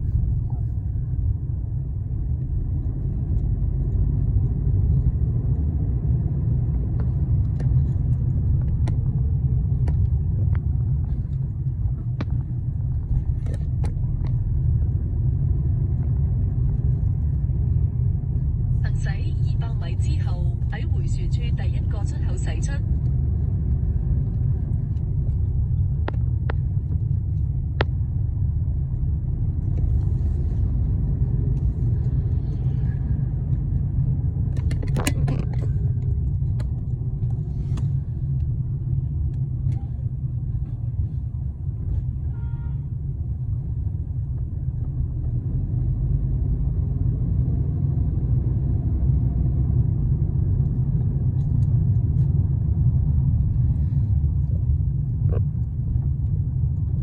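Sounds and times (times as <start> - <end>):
road and engine rumble in car: 0.0 - 57.0.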